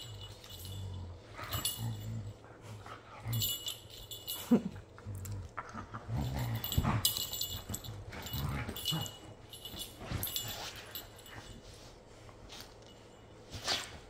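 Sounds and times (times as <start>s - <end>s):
dogs play growling: 0.0s - 12.8s.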